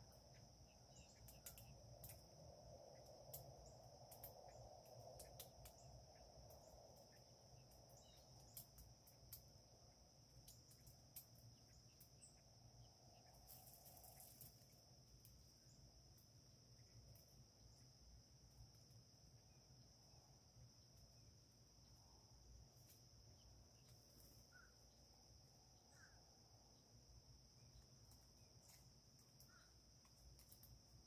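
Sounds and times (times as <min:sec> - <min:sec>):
high insect-like whine: 0:00.0 - 0:31.0.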